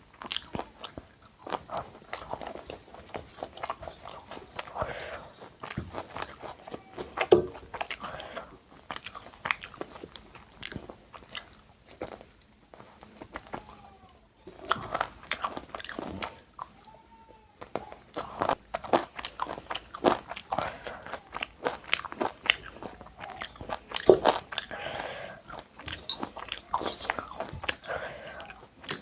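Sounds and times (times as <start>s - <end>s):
person chewing crunchy food: 0.0s - 13.8s, 14.5s - 16.8s, 17.6s - 29.0s.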